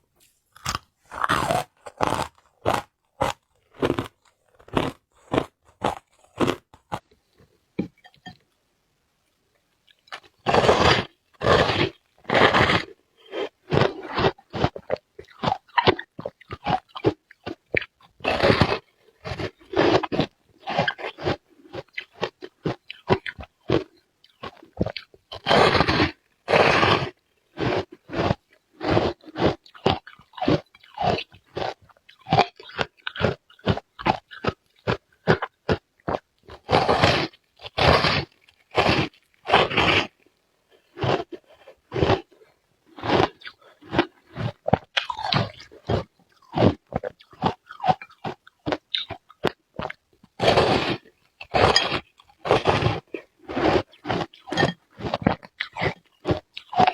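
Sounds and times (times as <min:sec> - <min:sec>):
person crunching ice cubes: 0:00.6 - 0:07.1, 0:10.0 - 0:56.9.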